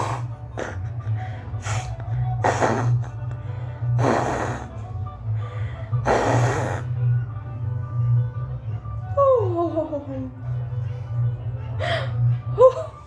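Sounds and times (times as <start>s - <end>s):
background music with low pulse: 0.0s - 13.0s.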